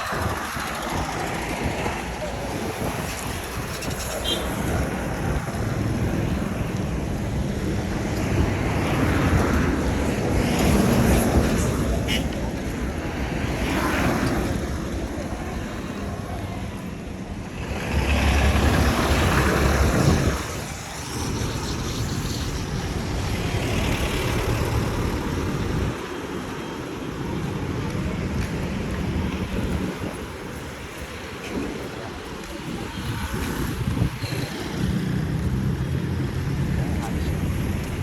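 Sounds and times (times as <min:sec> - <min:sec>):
wind on microphone: 0:00.0 - 0:15.4, 0:17.6 - 0:26.1, 0:27.2 - 0:38.0
street traffic: 0:00.0 - 0:38.0.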